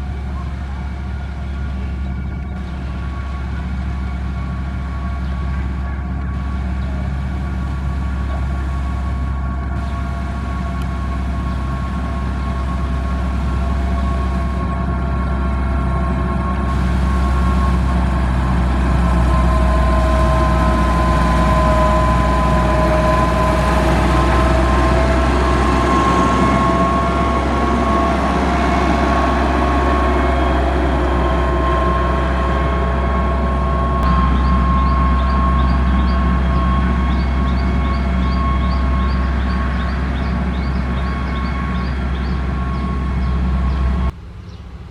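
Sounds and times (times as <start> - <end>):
diesel engine rumbling: 0.0 - 44.9
engine whine: 0.0 - 44.9.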